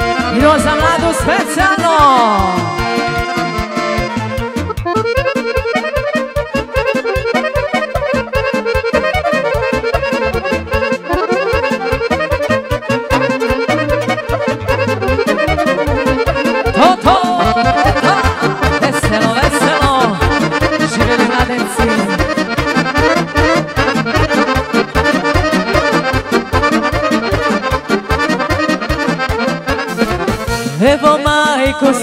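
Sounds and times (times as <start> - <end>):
accordion folk dance music: 0.0 - 32.0.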